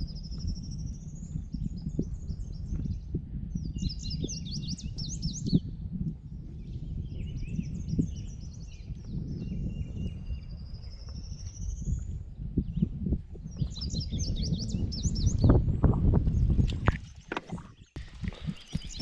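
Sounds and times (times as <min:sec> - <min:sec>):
steady low rumbling noise: 0:00.0 - 0:16.8
small birds singing: 0:00.0 - 0:19.0.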